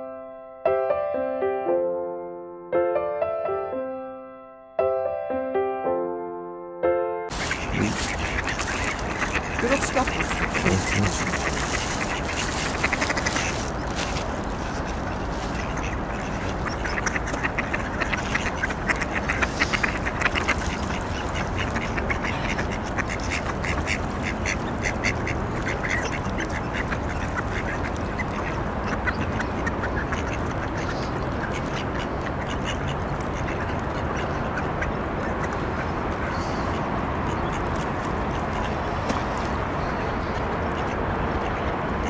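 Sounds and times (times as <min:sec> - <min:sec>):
ducks quacking: 0:07.3 - 0:42.0
low background noise: 0:07.3 - 0:42.0.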